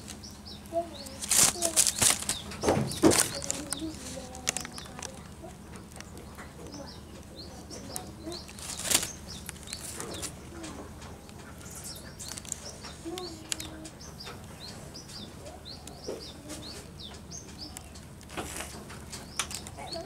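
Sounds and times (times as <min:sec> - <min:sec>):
light clicks and rustles: 0:00.0 - 0:15.3, 0:16.0 - 0:20.0
small birds chirping: 0:00.0 - 0:20.0.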